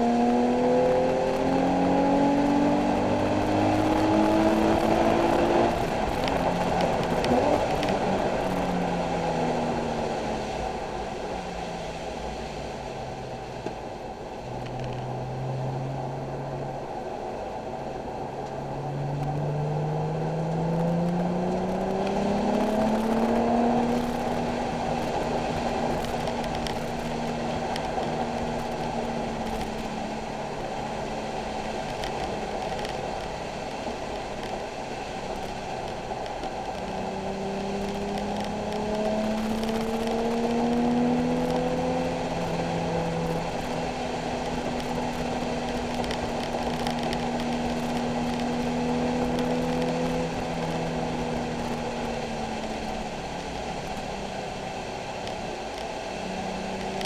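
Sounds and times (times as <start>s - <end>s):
car engine revving: 0.0s - 11.0s, 18.4s - 57.0s.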